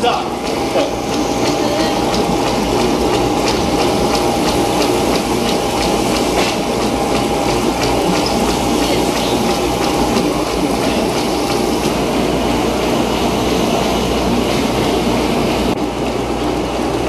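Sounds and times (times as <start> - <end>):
constant machine whine: 0.0 - 17.0.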